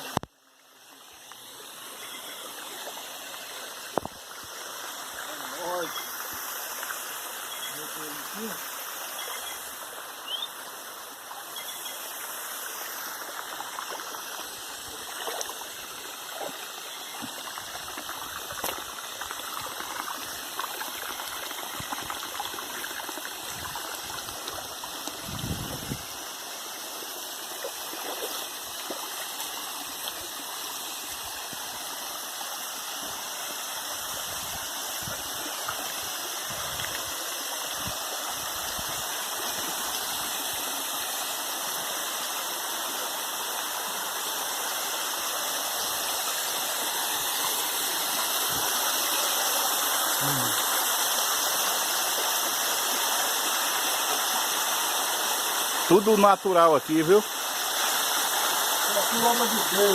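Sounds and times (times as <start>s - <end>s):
waterfall running and splashing: 0.0s - 59.9s.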